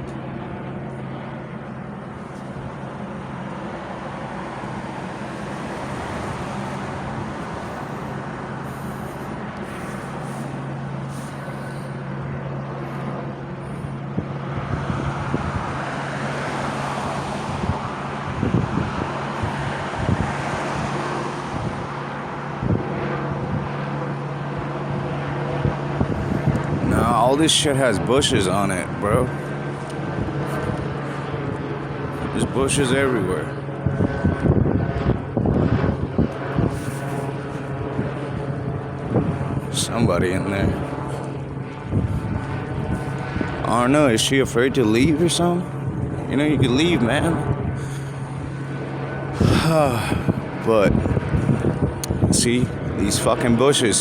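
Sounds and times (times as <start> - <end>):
low engine hum: 0.0 - 54.0
passing vehicle: 0.0 - 54.0
street traffic noise: 0.0 - 54.0.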